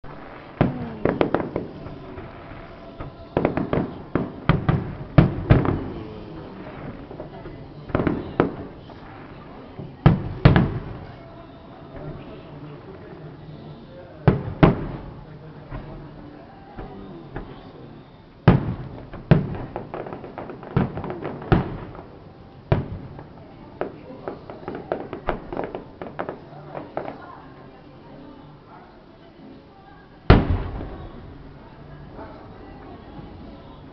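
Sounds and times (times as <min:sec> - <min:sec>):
fireworks bursting with bangs: 0:00.0 - 0:28.1, 0:30.2 - 0:33.9.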